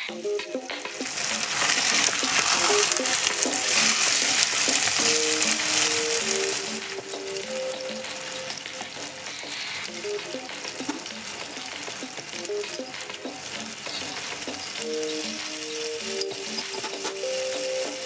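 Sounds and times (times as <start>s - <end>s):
chicken sizzling in oil: 0.0s - 18.0s
soft background music: 0.0s - 18.0s
wooden spatula stirring: 0.6s - 18.0s.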